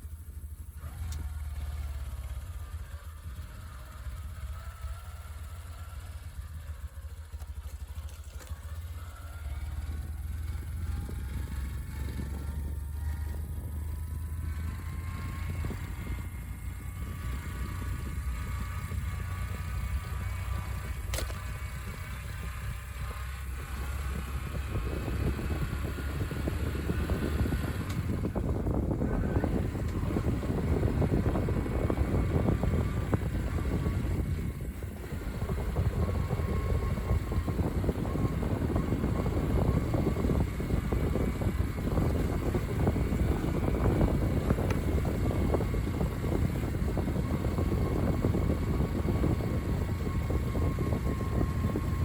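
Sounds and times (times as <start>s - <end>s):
motorcycle engine running: 0.0s - 52.0s
wind on microphone: 10.4s - 52.0s.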